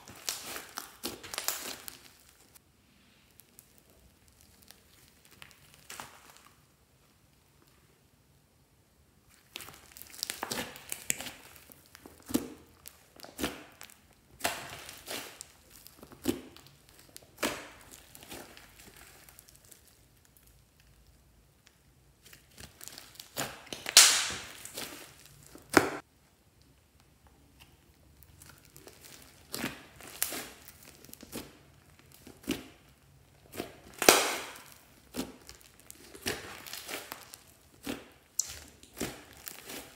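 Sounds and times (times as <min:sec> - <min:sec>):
hands squishing crackly slime: 0:00.0 - 0:02.6, 0:03.2 - 0:07.9, 0:09.2 - 0:39.9.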